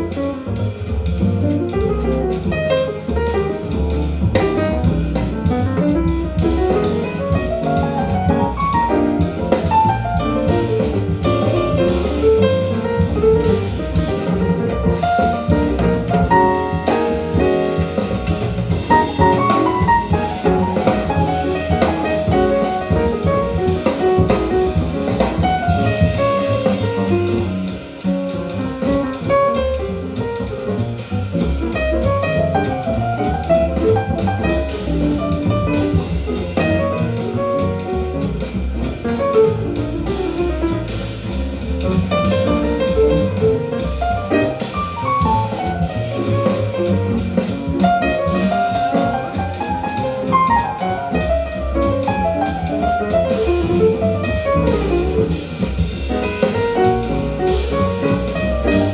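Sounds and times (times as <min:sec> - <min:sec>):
jazz over loudspeakers: 0:00.0 - 0:58.9.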